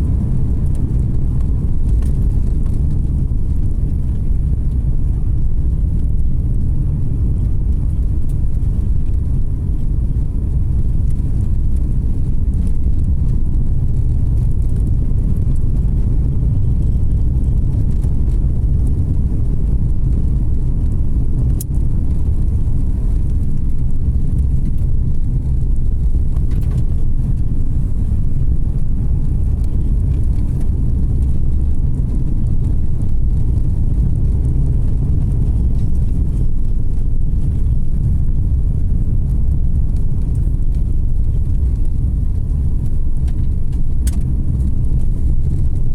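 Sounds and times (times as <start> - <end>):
car interior road rumble: 0.0 - 45.9.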